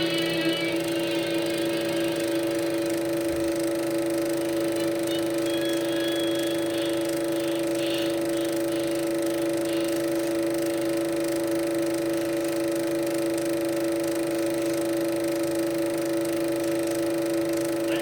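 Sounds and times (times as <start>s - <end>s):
steady two-tone hum: 0.0s - 18.0s.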